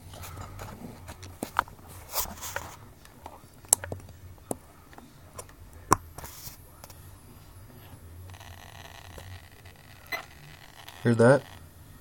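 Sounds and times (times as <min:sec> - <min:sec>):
faint steady electronic tone: 0:01.7 - 0:12.0.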